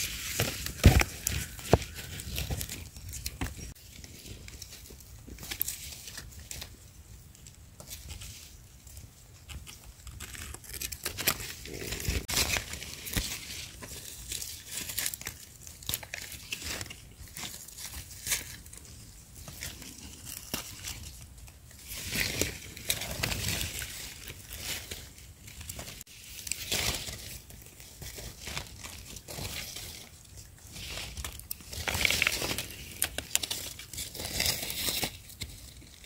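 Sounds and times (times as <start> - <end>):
dry leaves rustling: 0.0 - 6.8, 10.6 - 36.0.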